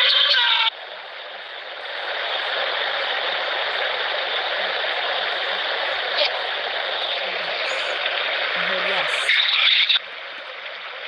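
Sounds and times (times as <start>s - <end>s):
rushing hiss of background noise: 0.1s - 11.0s.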